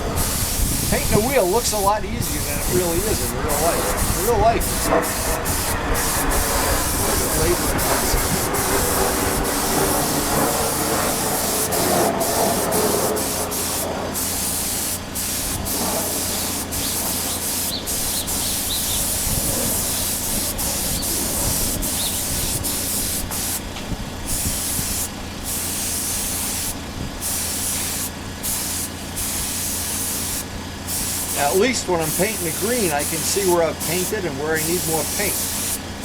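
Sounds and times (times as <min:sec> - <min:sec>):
paint sprayer hissing: 0:00.0 - 0:36.0.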